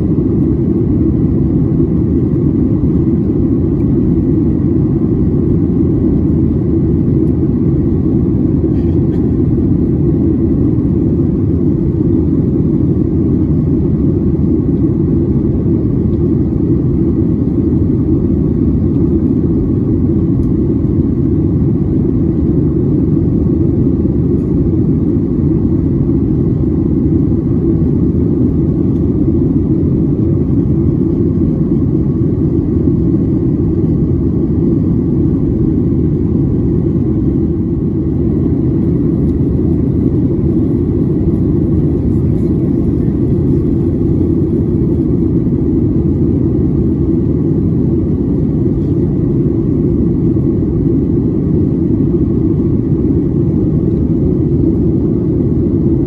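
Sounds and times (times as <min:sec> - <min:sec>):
airflow over fuselage: 0:00.0 - 0:56.0
faint high steady whine: 0:00.0 - 0:56.0
jet engine rumble: 0:00.0 - 0:56.0.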